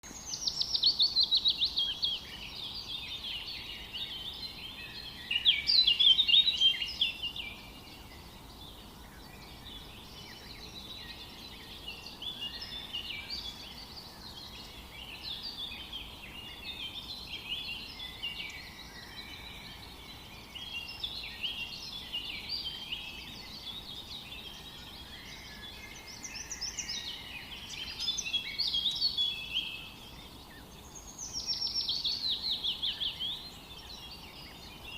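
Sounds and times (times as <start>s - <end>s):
chorus of birds singing: 0.0s - 34.9s.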